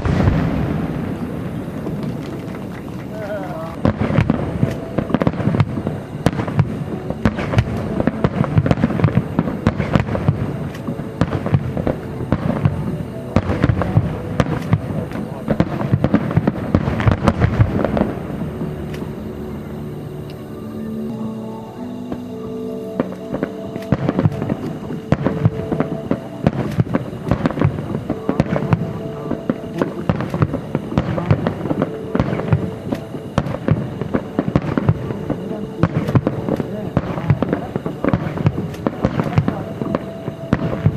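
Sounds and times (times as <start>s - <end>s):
continuous rumble: 0.0s - 40.9s
fireworks bursting with sharp bangs: 0.0s - 40.9s.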